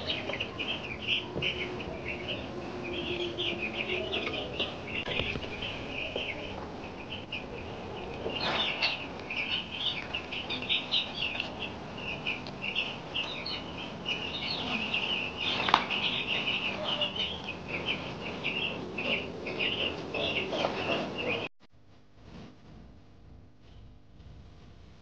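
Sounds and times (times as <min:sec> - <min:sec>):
chicks peeping: 0:00.0 - 0:21.5.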